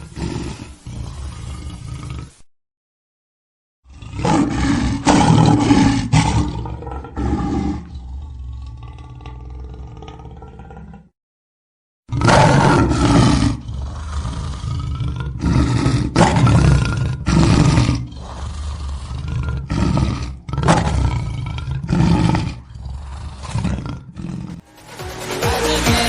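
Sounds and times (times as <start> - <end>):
lion roaring and grunting: 0.0 - 2.5, 3.9 - 11.1, 12.1 - 24.6.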